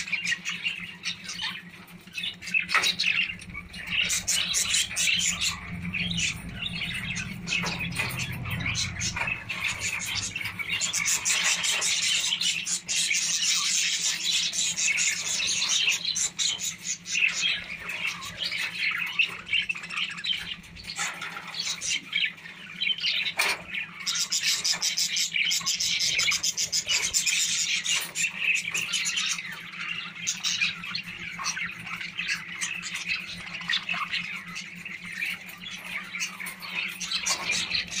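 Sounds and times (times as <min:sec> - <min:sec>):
budgerigars chattering and squawking: 0:00.0 - 0:38.0.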